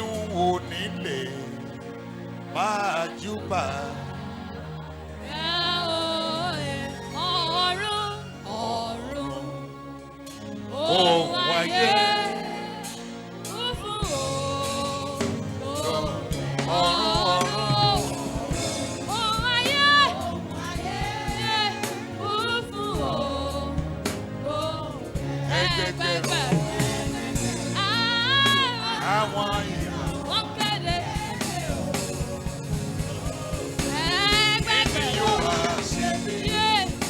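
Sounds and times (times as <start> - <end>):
gospel singing: 0.0 - 37.0
instrumental accompaniment: 0.0 - 37.0.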